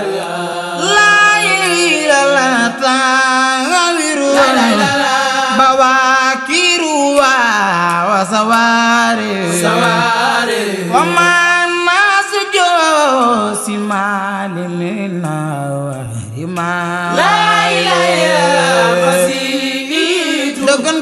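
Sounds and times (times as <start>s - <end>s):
person chanting: 0.0s - 21.0s.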